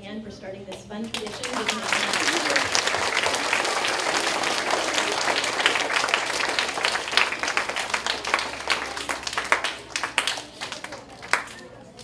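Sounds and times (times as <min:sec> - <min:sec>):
children applauding: 0:01.1 - 0:12.0.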